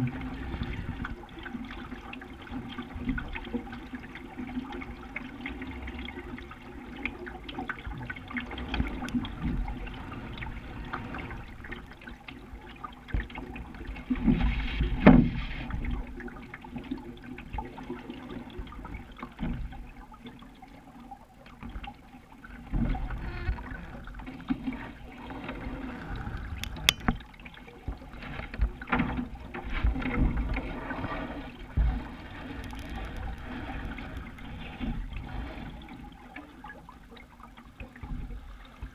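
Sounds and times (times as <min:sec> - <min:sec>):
water sloshing along a hull: 0:00.0 - 0:38.9.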